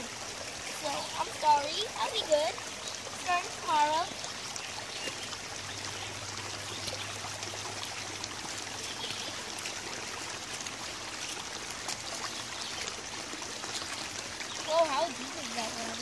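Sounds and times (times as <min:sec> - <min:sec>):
creek trickling over rocks: 0:00.0 - 0:16.0.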